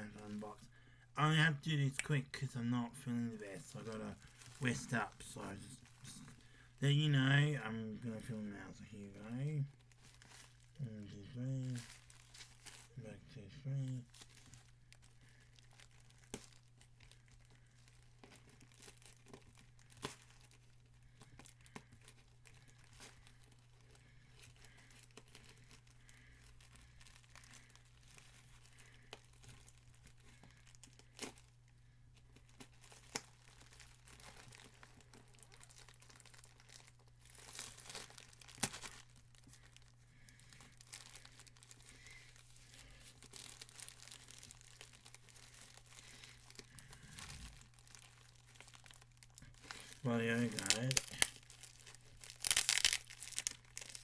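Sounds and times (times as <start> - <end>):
packaging tearing and crinkling: 1.8 - 13.0, 13.7 - 31.7, 32.4 - 54.0.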